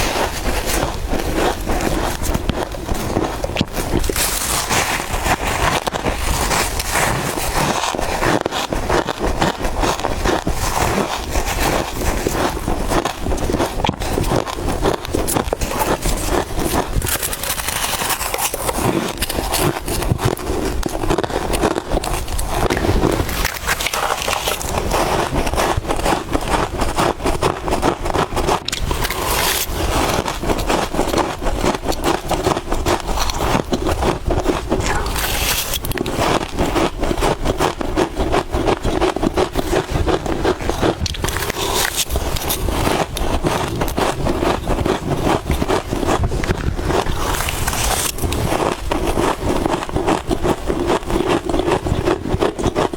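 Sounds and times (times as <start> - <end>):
frost being chewed crunching: 0.0 - 52.9.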